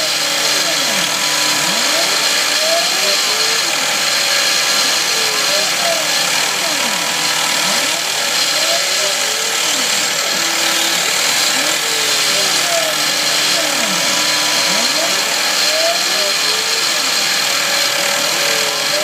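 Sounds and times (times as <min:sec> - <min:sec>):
milling spindle cutting metal: 0:00.0 - 0:19.0
stepper motors singing: 0:00.0 - 0:19.0.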